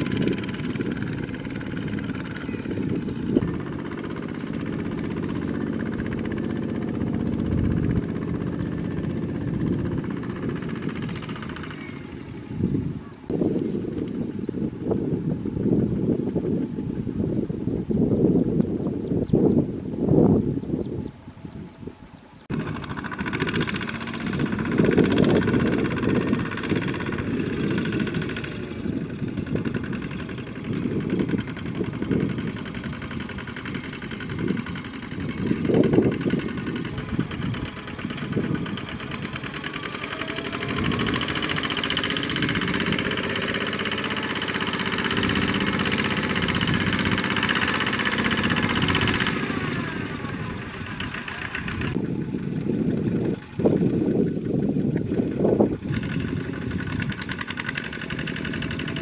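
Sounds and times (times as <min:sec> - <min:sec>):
diesel tractor engines under load: 0:00.0 - 0:59.0.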